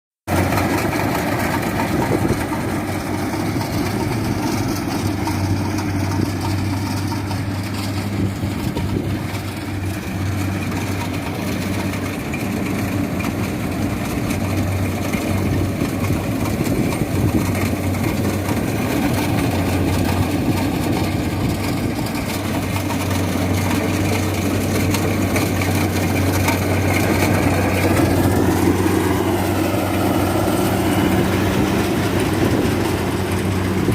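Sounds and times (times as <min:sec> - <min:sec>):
harvester engine humming: 0:00.3 - 0:33.9
threshing machinery clatter: 0:00.3 - 0:33.9.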